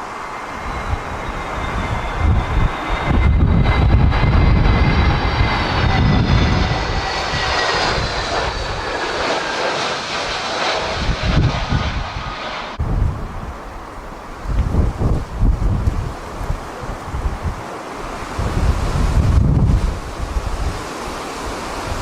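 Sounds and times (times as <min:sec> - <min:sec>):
jet engines whining: 0:00.0 - 0:22.0
wind rumbling on microphone: 0:00.0 - 0:22.0.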